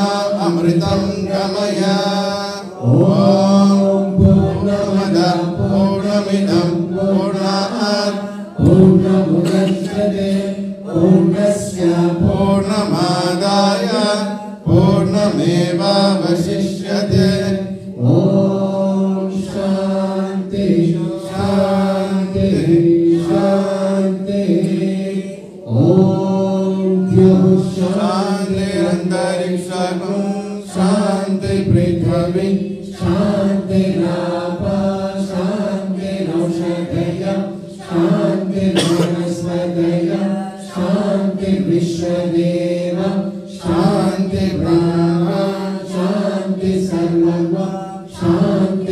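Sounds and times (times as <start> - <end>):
voices chanting: 0.0 - 48.9.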